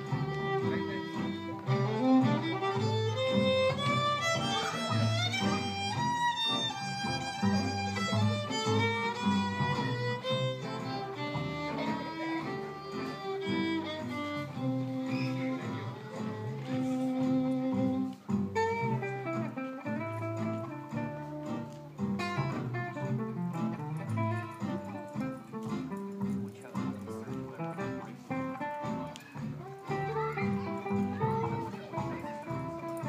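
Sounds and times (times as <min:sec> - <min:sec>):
acoustic guitar: 0:00.0 - 0:33.0
upright bass: 0:00.0 - 0:33.0
violin melody: 0:00.0 - 0:33.0.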